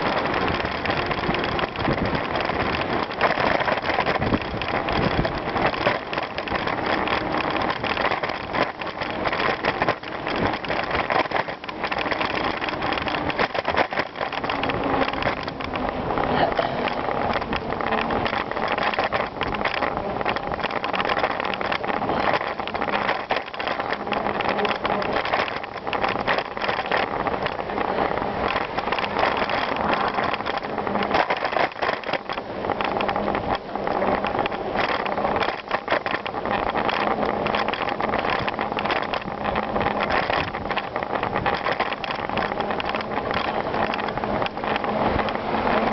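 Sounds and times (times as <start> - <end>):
bicycle tyres crunching on gravel: 0.0 - 45.9
small clicks and rattles: 0.0 - 45.9.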